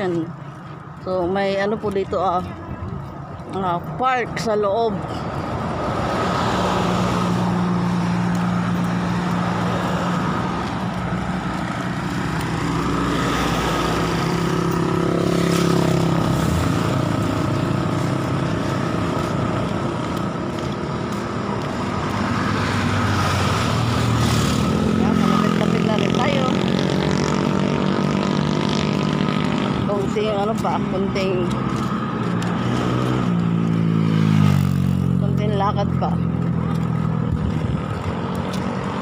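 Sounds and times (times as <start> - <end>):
cars and motorcycles passing: 0.0 - 39.0.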